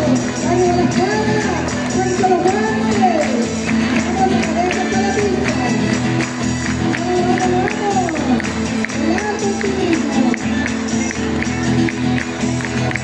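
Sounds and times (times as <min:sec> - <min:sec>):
hand-clapping: 0:00.0 - 0:13.0
person singing: 0:00.0 - 0:13.0.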